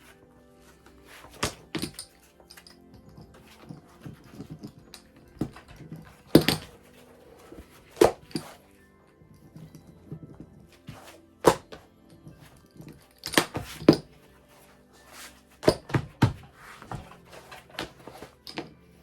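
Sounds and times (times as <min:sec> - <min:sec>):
thuds of folding leather: 0:00.0 - 0:02.2, 0:03.0 - 0:08.6, 0:09.5 - 0:14.1, 0:15.2 - 0:18.8.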